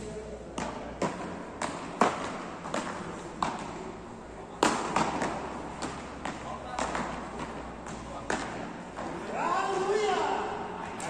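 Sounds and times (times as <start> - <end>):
paddles striking ball: 0.5 - 10.2.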